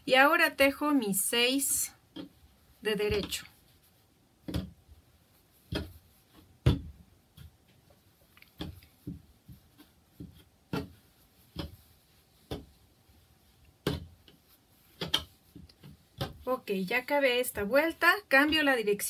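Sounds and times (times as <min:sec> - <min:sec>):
soft knocks and brushing of hands: 0:02.2 - 0:19.0.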